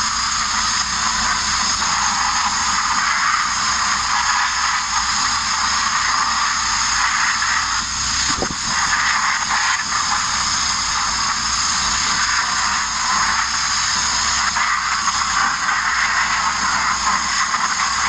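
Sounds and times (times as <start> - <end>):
media blaster hissing: 0.0 - 18.0.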